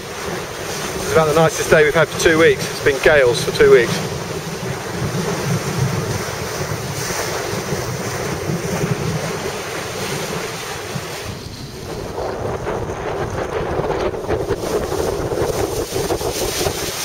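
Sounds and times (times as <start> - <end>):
water rushing past hull: 0.0 - 17.0
wind buffeting microphone: 0.0 - 17.0.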